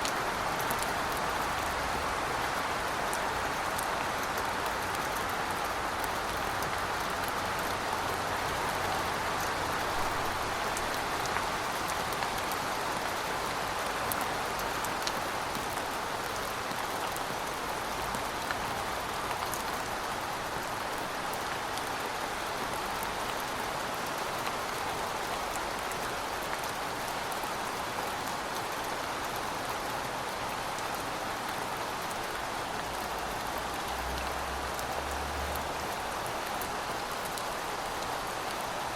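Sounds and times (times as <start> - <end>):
rain on pavement: 0.0 - 38.9.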